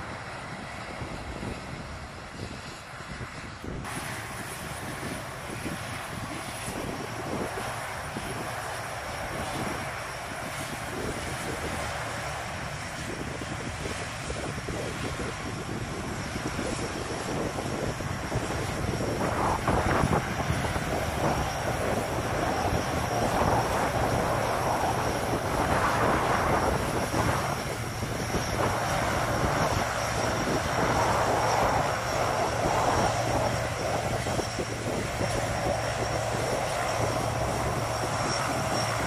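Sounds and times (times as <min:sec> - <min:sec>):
propeller drone: 0:00.0 - 0:39.0
turbine whine: 0:00.0 - 0:39.0.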